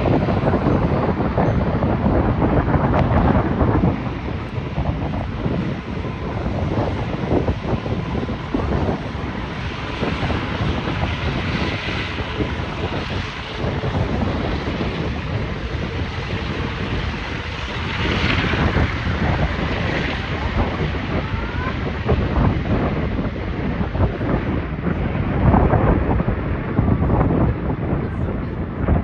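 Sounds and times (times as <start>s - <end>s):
steady noisy rumble: 0.0s - 29.0s
wind buffeting microphone: 0.0s - 29.0s.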